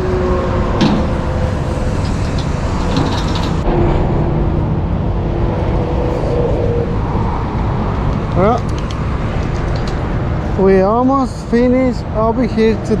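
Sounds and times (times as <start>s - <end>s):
freeway traffic roar: 0.0s - 13.0s
low engine hum: 0.0s - 13.0s.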